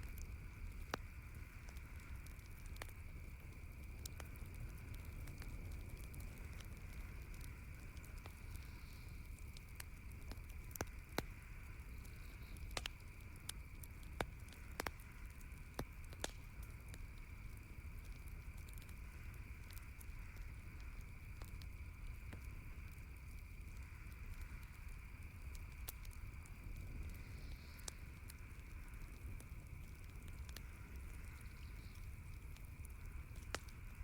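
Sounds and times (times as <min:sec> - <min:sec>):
campfire crackling and popping: 0:00.0 - 0:34.0
faint high-pitched hiss: 0:00.0 - 0:34.0.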